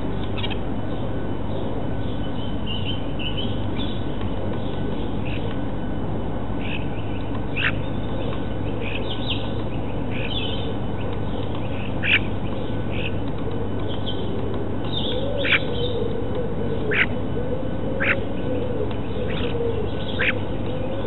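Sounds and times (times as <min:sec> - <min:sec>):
small birds chirping: 0:00.0 - 0:05.7, 0:06.6 - 0:17.2, 0:18.0 - 0:21.0.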